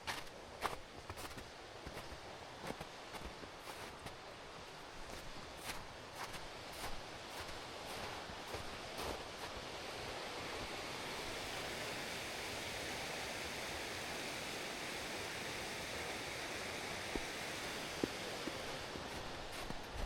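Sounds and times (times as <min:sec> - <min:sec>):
stream water rushing: 0:02.4 - 0:20.0.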